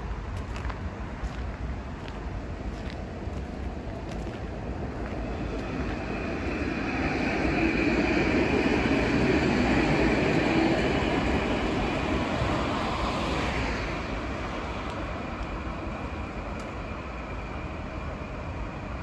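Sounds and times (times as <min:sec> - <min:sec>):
high hiss of train: 0:00.0 - 0:19.0
train passing rumble: 0:00.0 - 0:19.0.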